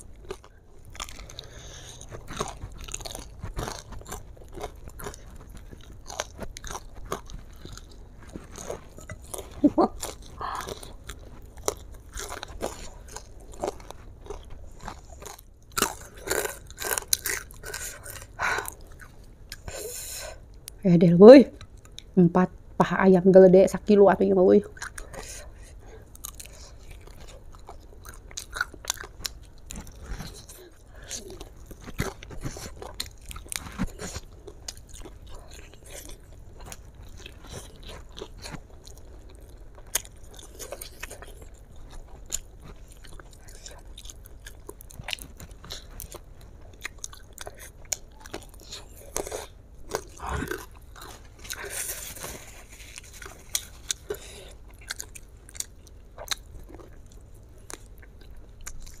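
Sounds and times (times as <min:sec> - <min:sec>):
crunching fried chicken: 0:00.0 - 0:19.7, 0:24.7 - 0:59.0.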